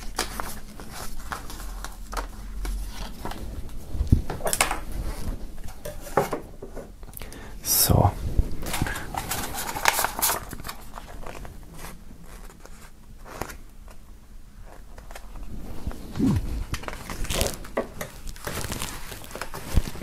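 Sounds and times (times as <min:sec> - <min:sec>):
paper rustling and crinkling: 0:00.0 - 0:06.5, 0:08.6 - 0:20.0.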